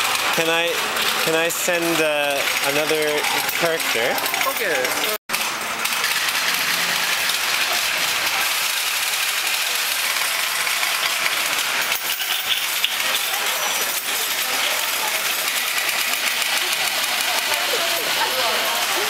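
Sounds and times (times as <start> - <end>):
balls rolling on metal rails: 0.0 - 19.0.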